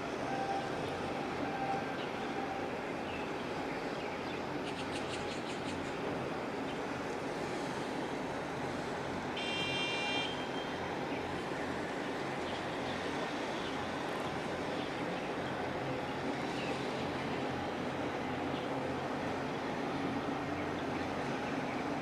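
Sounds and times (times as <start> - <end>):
low rumble of engines and traffic: 0.0 - 22.0.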